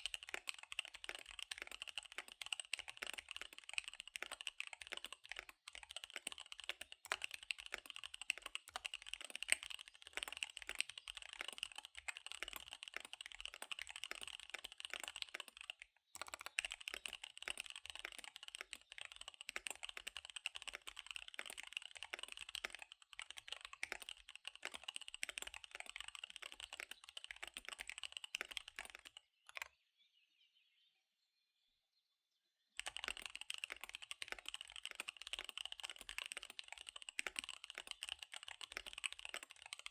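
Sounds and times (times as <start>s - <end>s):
fast typing on mechanical keyboard: 0.0s - 29.7s, 32.8s - 39.9s.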